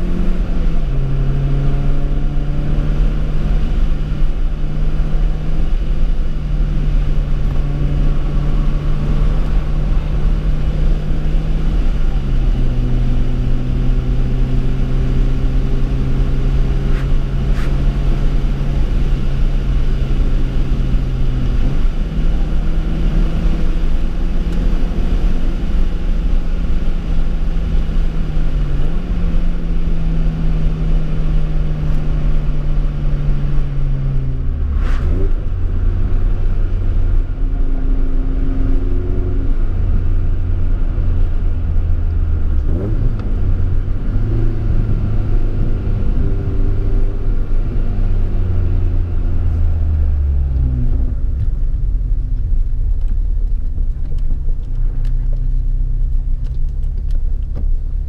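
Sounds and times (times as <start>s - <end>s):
car engine cruising: 0.0s - 58.0s
low road rumble: 0.0s - 58.0s.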